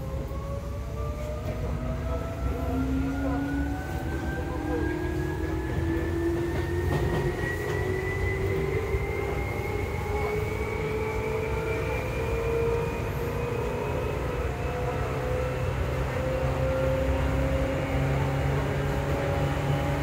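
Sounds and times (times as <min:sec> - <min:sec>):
wheels rumbling on rails: 0:00.0 - 0:20.0.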